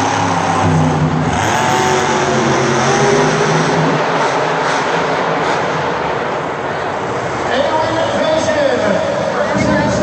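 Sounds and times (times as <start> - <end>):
truck engine running loud: 0.0 - 10.0.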